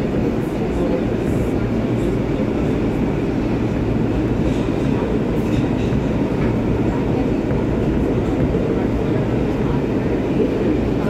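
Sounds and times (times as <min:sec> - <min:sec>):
subway wheels on rails: 0:00.0 - 0:11.0.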